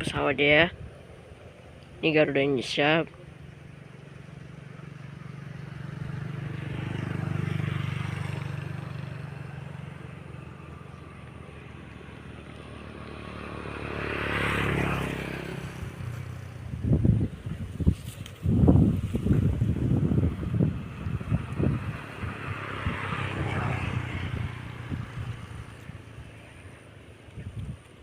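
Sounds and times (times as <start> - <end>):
vehicle engine hum: 0.0 - 28.0.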